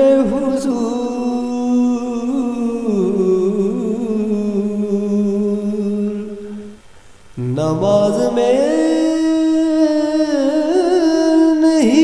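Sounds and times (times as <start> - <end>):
man singing unaccompanied: 0.0 - 6.8, 7.4 - 12.0.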